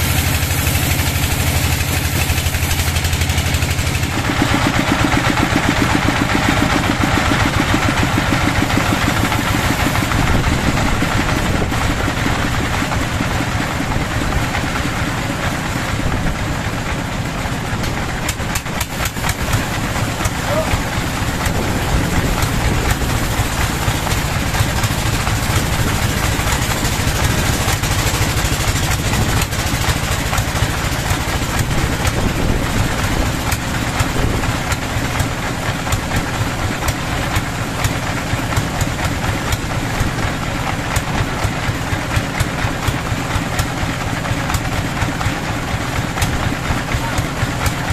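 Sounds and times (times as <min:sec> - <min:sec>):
engine droning: 0:00.0 - 0:47.9.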